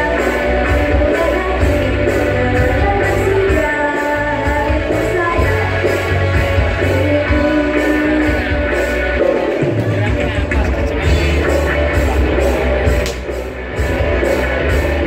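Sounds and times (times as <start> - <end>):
rock song through loudspeakers: 0.0 - 15.0.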